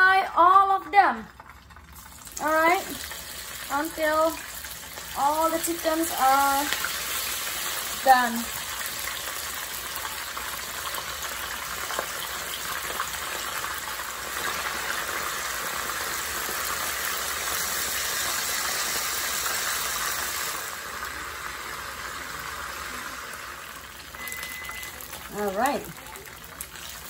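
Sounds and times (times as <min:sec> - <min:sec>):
chicken sizzling in hot oil: 0:01.3 - 0:27.0.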